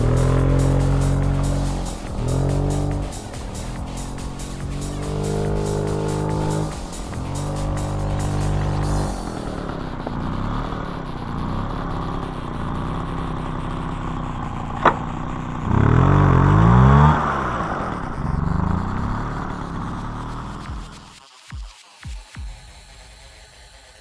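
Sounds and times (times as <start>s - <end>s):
small two-stroke engine running: 0.0s - 21.2s.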